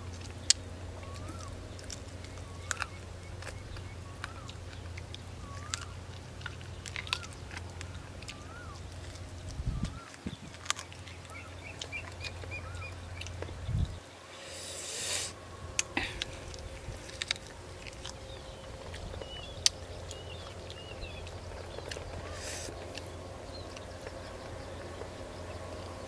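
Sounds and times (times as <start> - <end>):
birds chirping faintly: 0.0 - 26.0
chewing: 0.0 - 26.0
steady low hum: 0.0 - 26.0.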